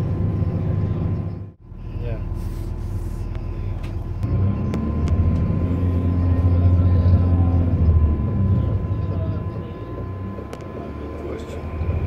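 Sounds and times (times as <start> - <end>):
electric train motor hum: 0.0 - 12.0.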